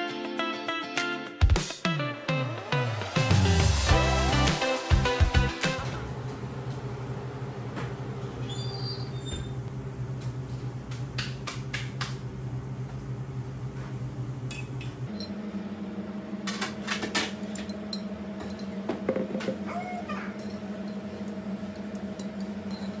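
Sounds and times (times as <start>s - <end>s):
machine hum: 2.4s - 23.0s.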